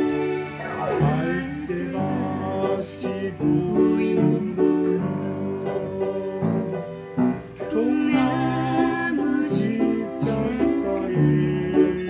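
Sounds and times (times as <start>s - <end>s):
upright piano playing: 0.0s - 12.0s.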